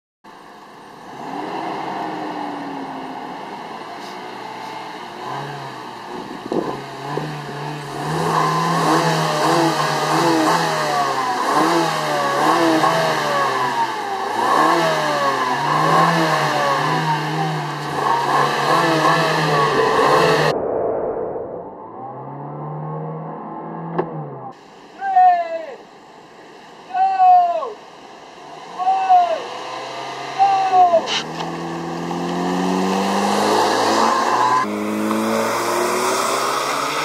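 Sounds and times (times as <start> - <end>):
car engines revving: 0.3 - 20.6, 21.7 - 24.6, 27.9 - 37.0.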